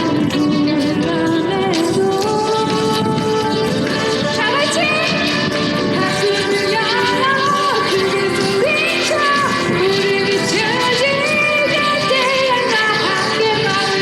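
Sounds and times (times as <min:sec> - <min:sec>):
backing track: 0:00.0 - 0:14.0
woman singing pop ballad: 0:00.0 - 0:14.0.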